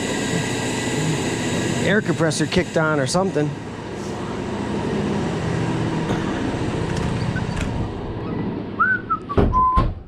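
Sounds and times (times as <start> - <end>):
air compressor running: 0.0 - 8.8.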